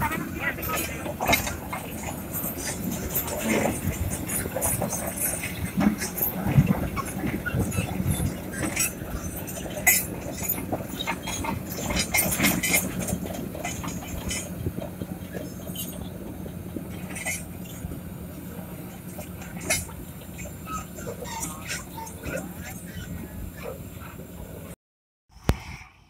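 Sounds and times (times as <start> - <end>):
low engine hum: 0.0 - 24.8.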